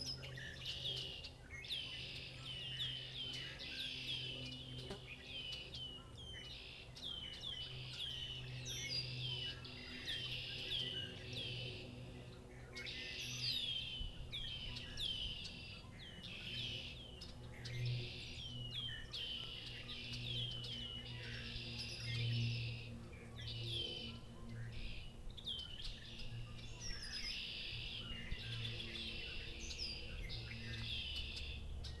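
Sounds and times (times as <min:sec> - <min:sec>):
chorus of songbirds: 0:00.0 - 0:32.0.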